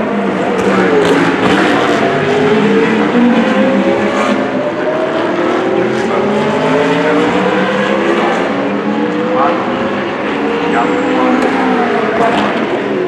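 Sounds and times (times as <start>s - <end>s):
race car engines accelerating: 0.0s - 13.0s.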